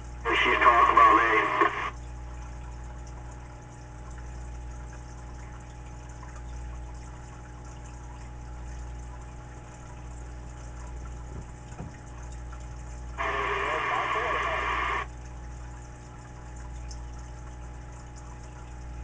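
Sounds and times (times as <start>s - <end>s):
electrical hum: 0.0s - 3.2s, 4.6s - 19.0s.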